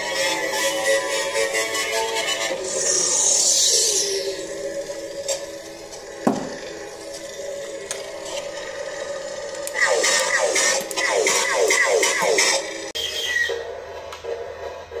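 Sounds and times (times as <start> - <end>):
lightsaber hum: 0.0 - 15.0.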